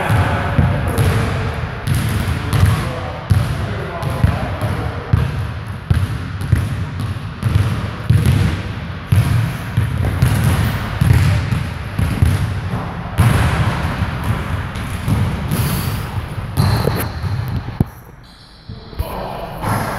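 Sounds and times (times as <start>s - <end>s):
basketballs bouncing on hardwood: 0.0s - 17.9s.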